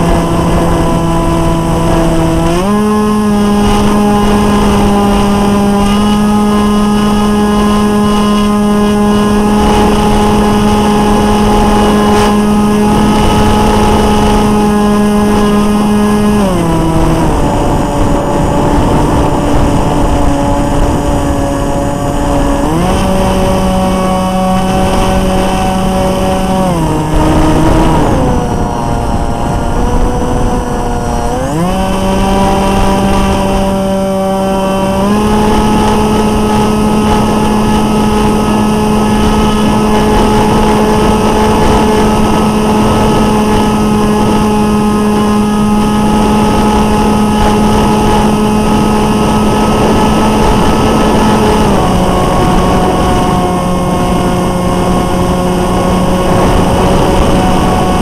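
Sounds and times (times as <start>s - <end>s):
electric motor and propeller whining: 0.0s - 58.0s.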